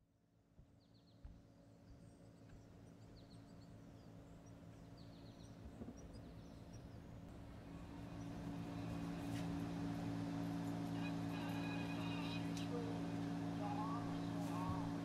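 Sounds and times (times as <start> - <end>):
low steady hum: 0.3 - 15.0
small birds chirping: 0.7 - 15.0.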